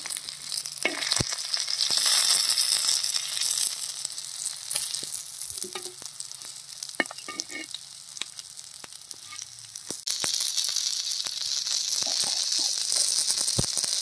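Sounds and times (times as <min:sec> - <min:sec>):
fish sizzling on a griddle: 0:00.0 - 0:14.0
oil crackling and popping: 0:00.0 - 0:14.0.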